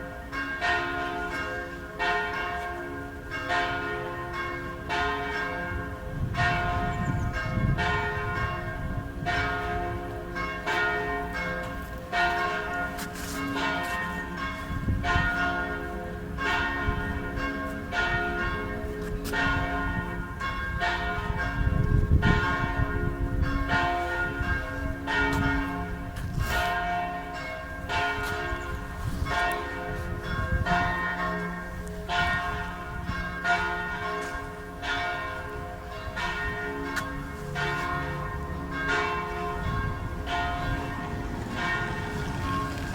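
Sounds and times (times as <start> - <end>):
church bells ringing: 0.0 - 42.9.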